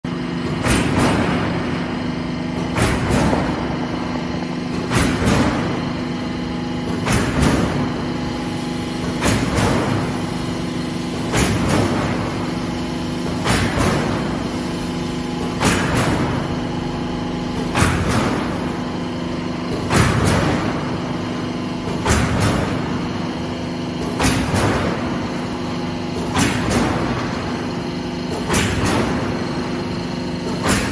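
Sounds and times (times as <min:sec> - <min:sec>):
machine motor hum: 0:00.1 - 0:30.9.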